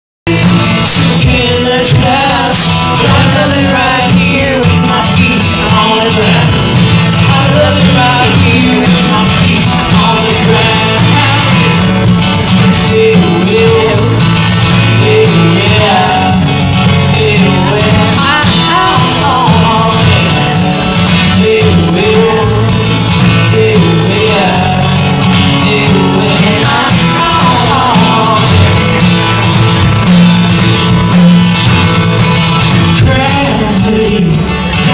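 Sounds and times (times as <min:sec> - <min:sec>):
acoustic guitar strumming: 0:00.2 - 0:34.9.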